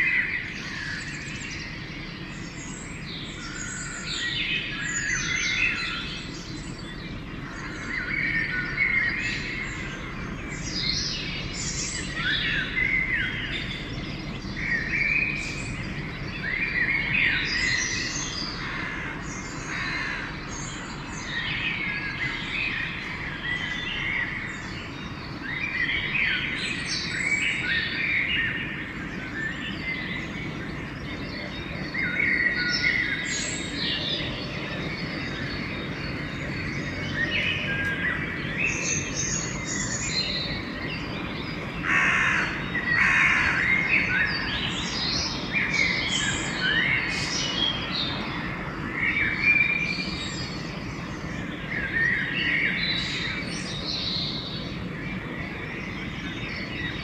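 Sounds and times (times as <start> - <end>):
low background rumble: 0.0 - 57.0
songbirds singing: 0.0 - 57.0.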